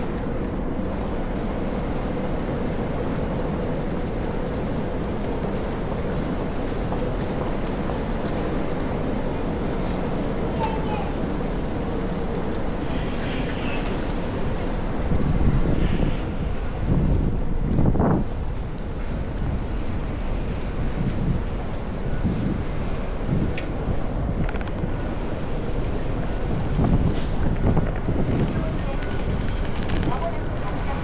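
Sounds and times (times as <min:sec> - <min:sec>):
city street noise: 0:00.0 - 0:31.0
wind buffeting microphone: 0:00.0 - 0:31.0.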